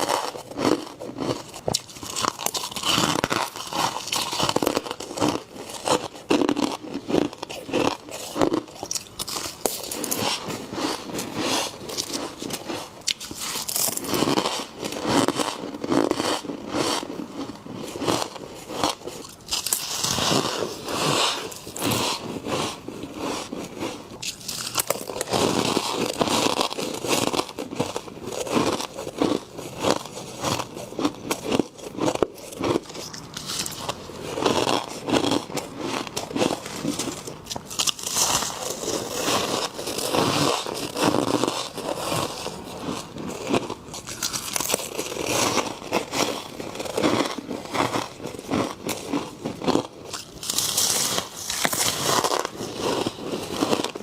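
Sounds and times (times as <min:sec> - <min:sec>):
crisp crunching of chewing frost: 0:00.0 - 0:54.0.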